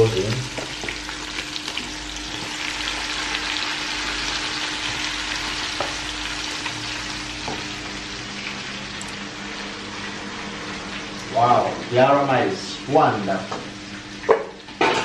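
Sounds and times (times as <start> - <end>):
oil sizzling in a pot: 0.0 - 12.4.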